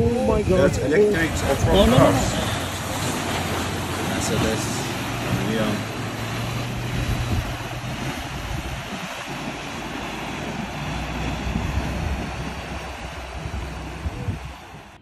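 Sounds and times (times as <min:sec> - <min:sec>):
rush of churned water: 0:00.0 - 0:15.0
wind buffeting microphone: 0:00.0 - 0:15.0.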